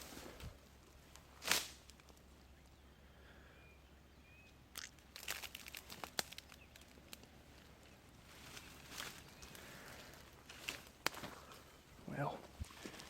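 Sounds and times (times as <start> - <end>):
crunching through dry brush: 0.0 - 2.6, 4.7 - 13.0.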